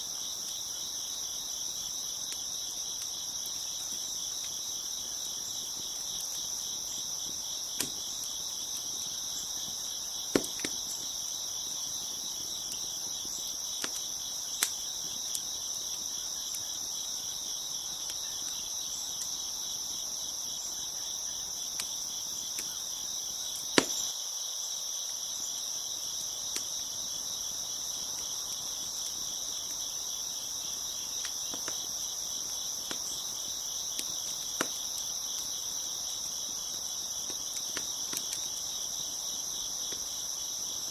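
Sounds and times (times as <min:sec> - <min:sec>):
crickets chirping: 0:00.0 - 0:40.9
wood fire popping: 0:00.3 - 0:20.1, 0:23.5 - 0:24.1, 0:27.8 - 0:40.3.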